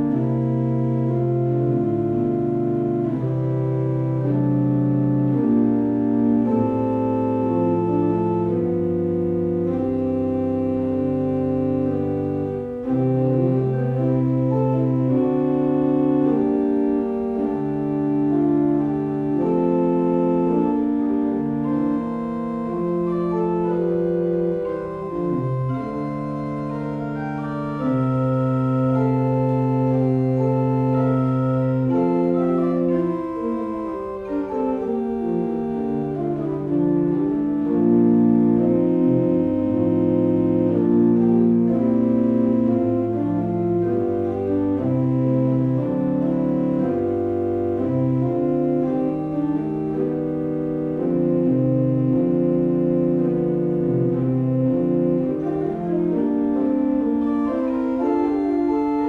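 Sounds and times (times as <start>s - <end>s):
pipe organ playing slow chords: 0.0s - 59.0s.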